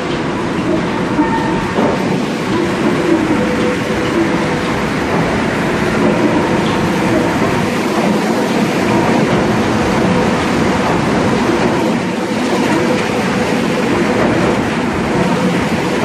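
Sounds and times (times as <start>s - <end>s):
metro train rolling rumble: 0.0s - 16.0s.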